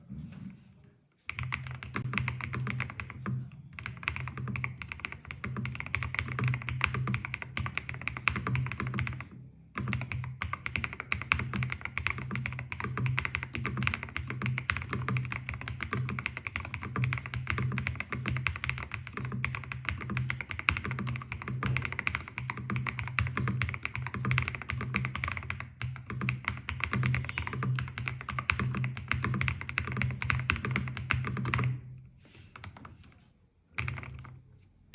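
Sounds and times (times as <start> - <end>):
fast mechanical keyboard typing: 1.3 - 31.8, 33.8 - 34.4.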